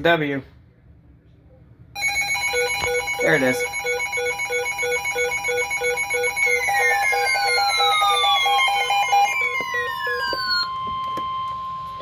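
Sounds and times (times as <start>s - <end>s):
electronic beeping: 2.0s - 12.0s
steady single-pitch attention tone: 2.0s - 12.0s.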